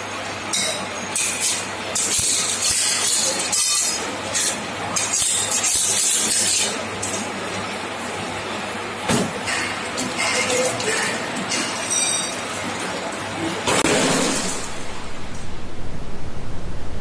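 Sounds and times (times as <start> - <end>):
machine humming: 1.6 - 17.0.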